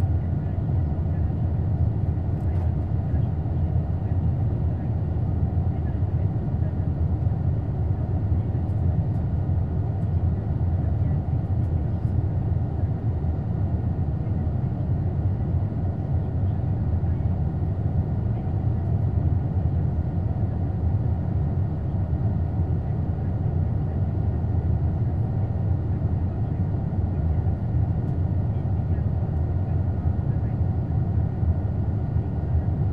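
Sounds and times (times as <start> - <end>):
aircraft cabin engine rumble: 0.0 - 32.9.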